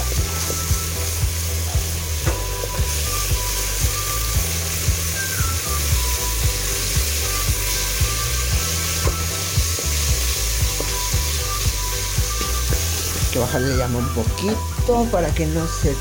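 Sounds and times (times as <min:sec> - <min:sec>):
background music with steady beat: 0:00.0 - 0:16.0
garlic sizzling in hot oil: 0:00.0 - 0:16.0.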